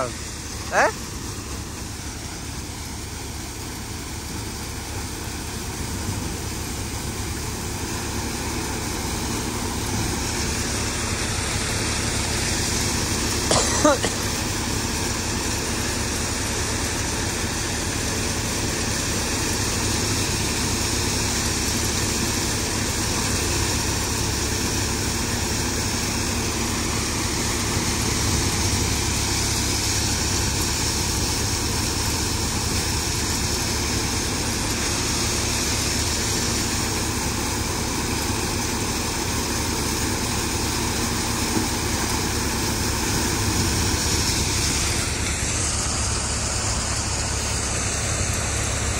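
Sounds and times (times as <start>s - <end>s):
thresher drum and fan noise: 0.0s - 48.9s
tractor engine: 0.0s - 48.9s.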